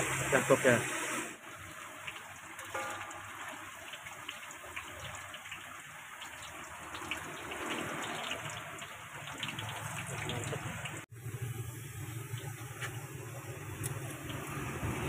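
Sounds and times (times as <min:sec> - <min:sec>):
tofu deep-frying in oil: 0:00.0 - 0:15.0.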